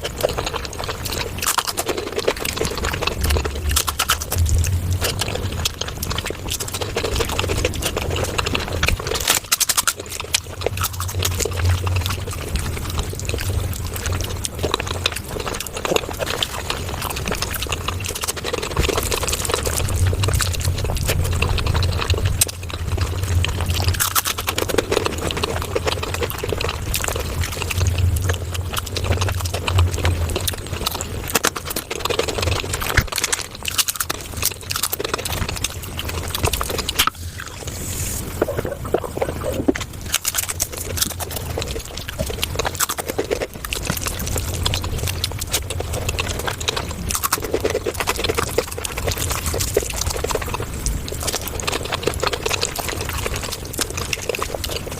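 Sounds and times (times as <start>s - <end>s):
wet chewing and mouth smacking: 0.0s - 54.9s.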